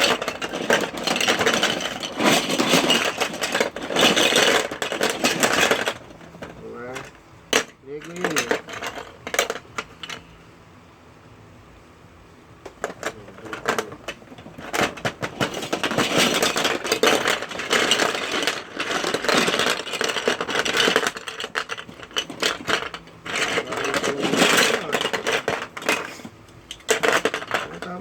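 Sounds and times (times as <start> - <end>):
plastic bricks clattering: 0.0 - 10.2, 12.7 - 28.0.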